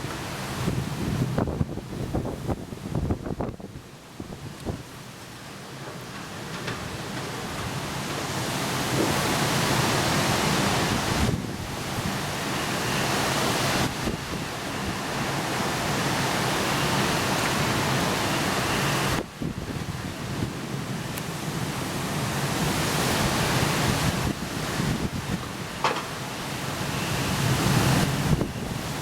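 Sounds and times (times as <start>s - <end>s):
heavy rain downpour: 0.0s - 29.0s.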